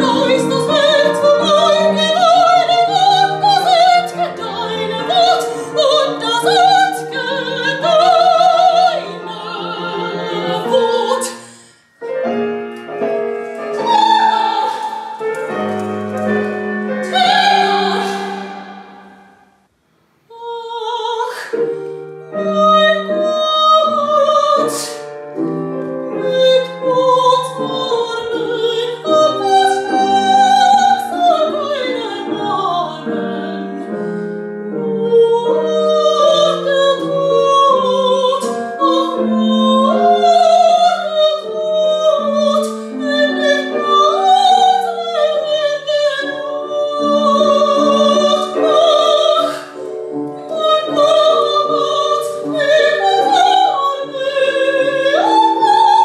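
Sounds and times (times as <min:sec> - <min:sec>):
woman singing opera: 0:00.0 - 0:11.6, 0:13.6 - 0:15.6, 0:16.3 - 0:19.3, 0:20.3 - 0:25.2, 0:25.8 - 0:56.0
piano accompaniment: 0:00.0 - 0:56.0.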